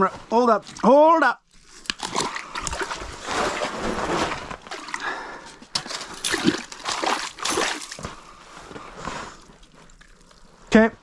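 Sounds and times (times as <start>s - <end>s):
water splashing and sloshing: 1.5s - 10.7s.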